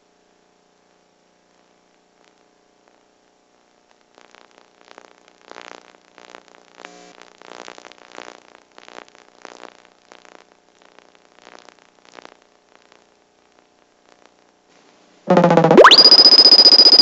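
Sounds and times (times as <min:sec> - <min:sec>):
static crackles and hiss: 0:00.0 - 0:17.0.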